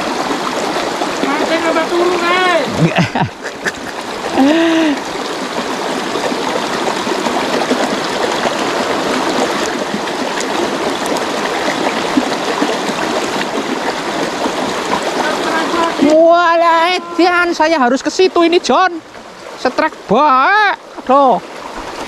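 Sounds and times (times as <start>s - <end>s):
stream trickling over stones: 0.0s - 22.0s.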